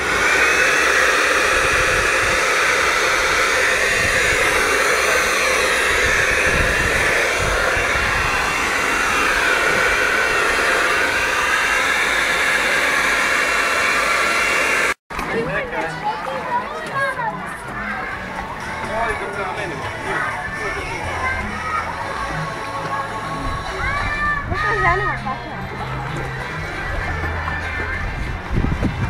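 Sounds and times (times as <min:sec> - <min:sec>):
electric leaf blower running: 0:00.0 - 0:15.0, 0:18.8 - 0:27.9.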